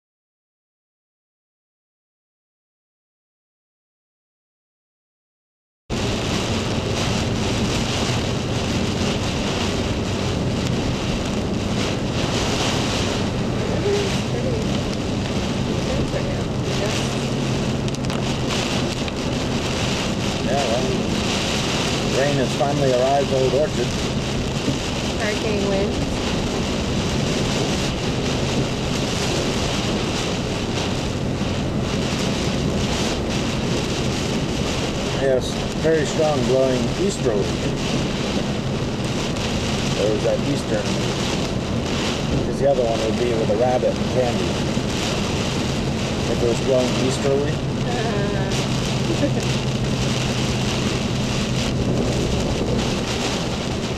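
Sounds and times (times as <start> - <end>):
strong wind buffeting microphone: 5.9 - 53.9.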